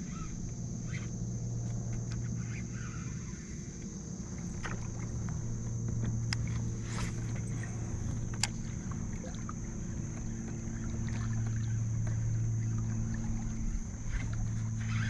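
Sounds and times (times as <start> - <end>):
pedal drive whirring: 0.0 - 15.0.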